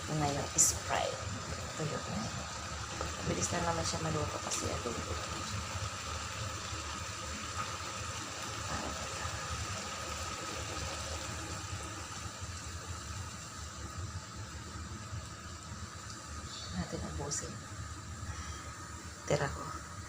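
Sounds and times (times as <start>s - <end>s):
low steady hum: 0.0s - 20.0s
pot bubbling: 0.0s - 20.0s.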